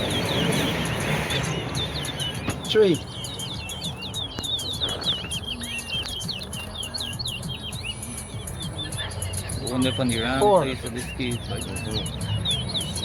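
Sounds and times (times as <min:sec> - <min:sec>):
finches chirping song: 0:00.0 - 0:13.0.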